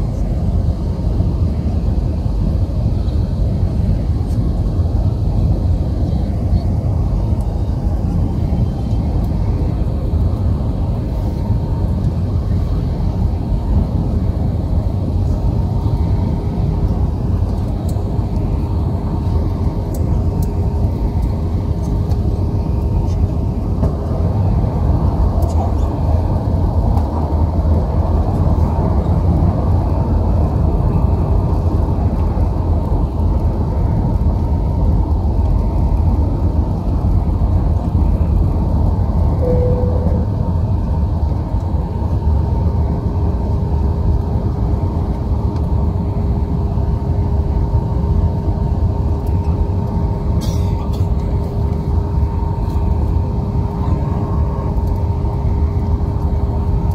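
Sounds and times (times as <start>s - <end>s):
airplane cabin rumble: 0.0s - 56.9s
faint steady hum: 0.0s - 56.9s.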